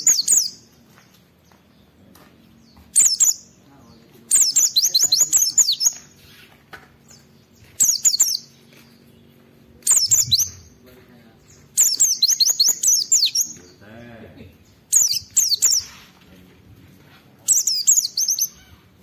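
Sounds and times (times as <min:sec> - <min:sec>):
bird twittering song: 0:00.0 - 0:16.6, 0:17.4 - 0:19.0.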